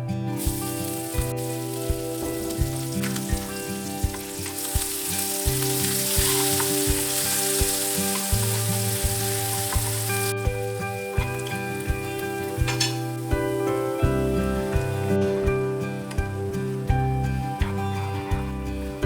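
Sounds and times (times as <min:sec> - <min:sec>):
music with a steady beat: 0:00.0 - 0:19.0
hot oil sizzling in a pan: 0:00.4 - 0:17.7.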